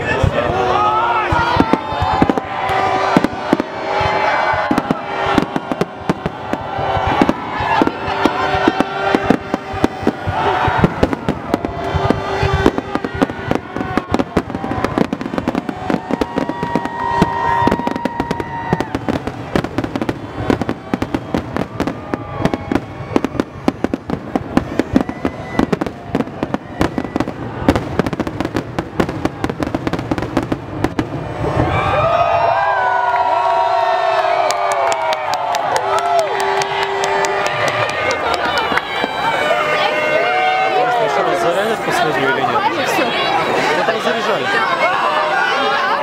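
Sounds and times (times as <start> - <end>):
fireworks bursts and crackles: 0.0 - 46.0.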